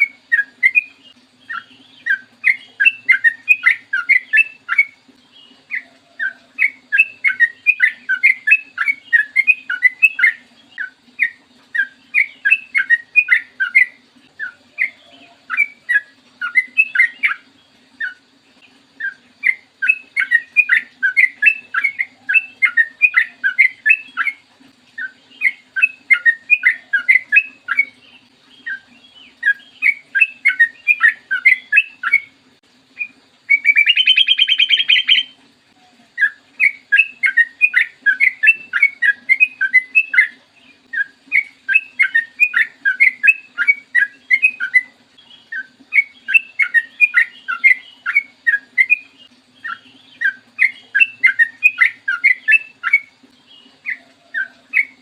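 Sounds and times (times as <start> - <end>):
bulbul singing: 0.0 - 55.0
faint steady hum: 0.0 - 55.0.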